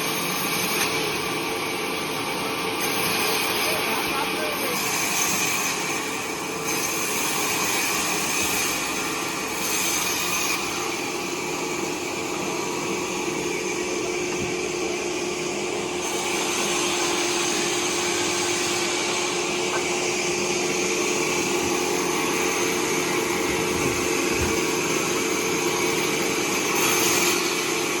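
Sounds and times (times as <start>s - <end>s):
bandsaw sawing wood: 0.0s - 28.0s.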